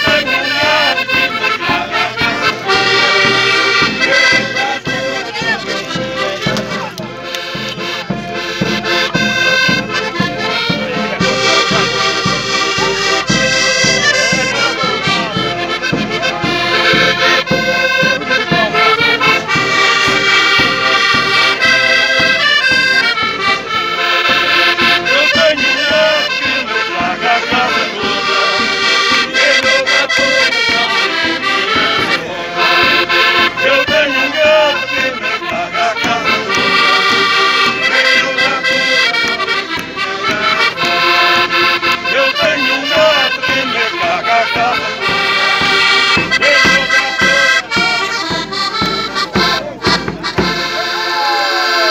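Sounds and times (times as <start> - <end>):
bass drum beating: 0.0 - 50.7
button accordions playing folk tune: 0.0 - 51.9.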